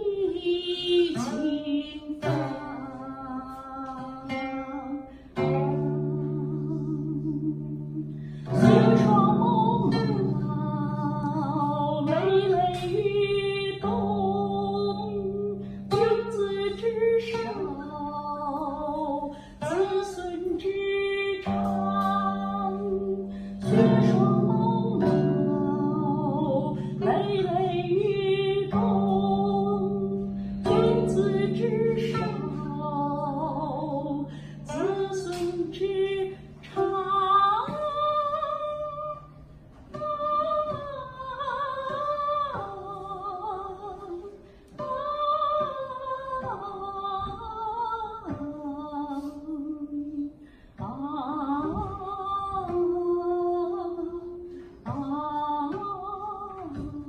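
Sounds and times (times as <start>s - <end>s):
woman singing: 0.0s - 57.0s
plucked zither notes: 0.1s - 49.4s.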